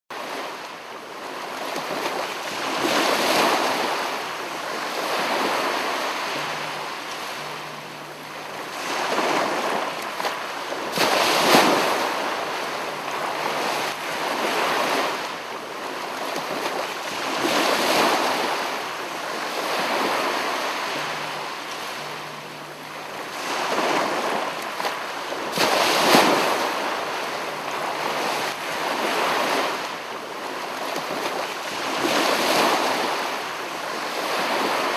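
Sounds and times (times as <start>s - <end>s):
sea waves breaking: 0.2s - 34.9s.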